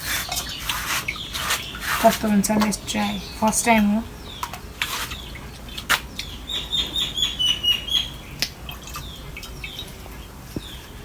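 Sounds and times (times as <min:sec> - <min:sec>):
small bird chirping: 0:00.1 - 0:11.0.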